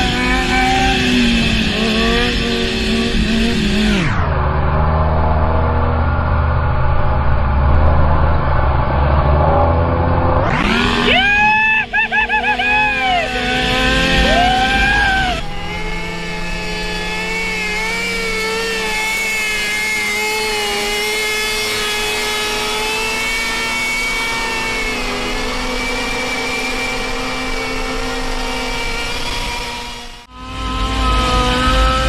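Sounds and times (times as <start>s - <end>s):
motorcycle engine revving high: 0.0s - 32.0s.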